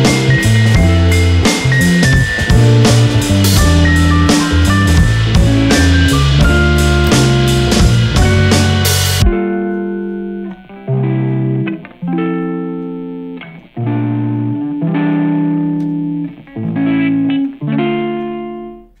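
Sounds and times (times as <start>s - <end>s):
slow plucked-string chords: 0.0s - 19.0s.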